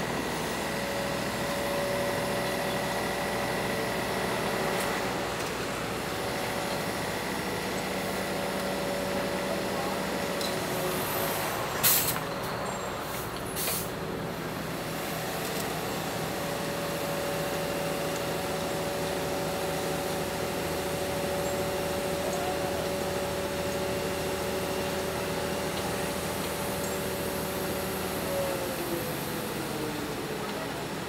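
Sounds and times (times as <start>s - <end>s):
heavy diesel machinery running: 0.0s - 31.0s.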